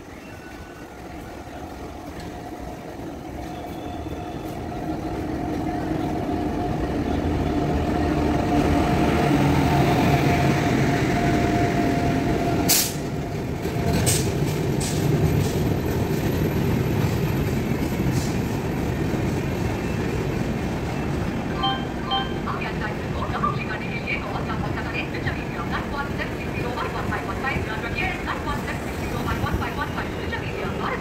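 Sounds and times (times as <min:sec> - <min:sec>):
train wheels rumbling on rail: 0:00.0 - 0:21.6, 0:22.2 - 0:31.0.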